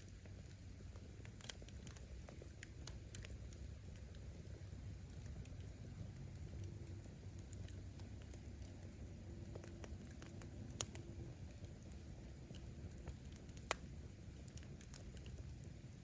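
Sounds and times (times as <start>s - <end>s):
bonfire flames rumbling: 0.0s - 16.0s
firewood crackling: 0.0s - 16.0s.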